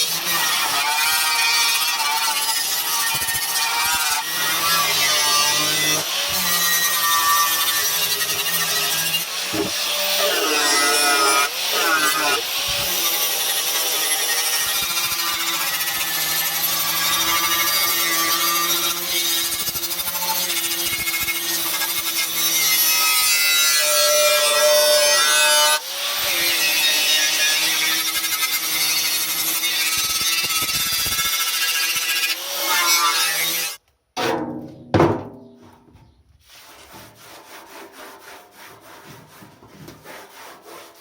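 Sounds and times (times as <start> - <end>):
power tool grinding: 0.0 - 33.8.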